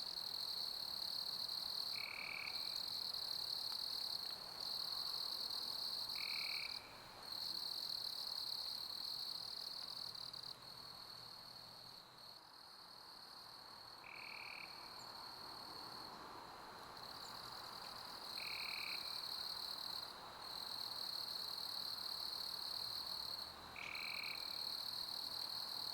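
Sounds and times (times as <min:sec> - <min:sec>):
crickets chirping: 0:00.0 - 0:25.9
soft steady hiss: 0:00.0 - 0:25.9.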